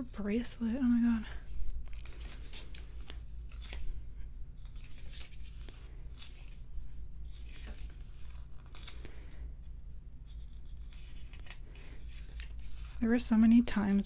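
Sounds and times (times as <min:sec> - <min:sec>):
low steady hum: 0:00.0 - 0:14.0
paper pages rustling: 0:01.7 - 0:09.5, 0:10.2 - 0:14.0.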